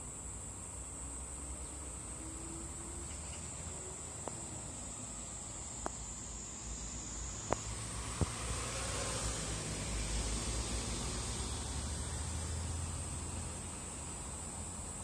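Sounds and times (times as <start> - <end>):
cicada droning: 0.0 - 15.0.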